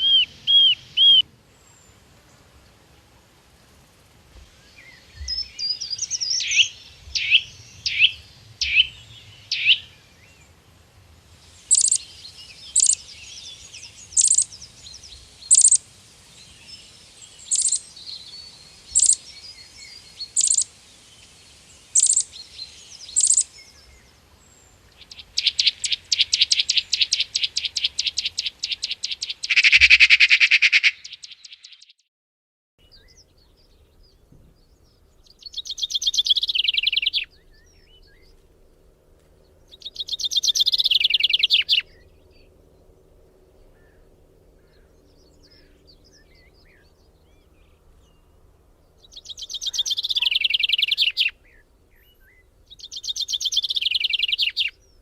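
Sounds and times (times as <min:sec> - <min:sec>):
songbird calls: 0:00.0 - 0:03.0, 0:04.3 - 0:10.6, 0:11.4 - 0:32.0, 0:32.8 - 0:38.4, 0:39.2 - 0:55.0
songbird trill: 0:00.0 - 0:32.1, 0:32.8 - 0:55.0.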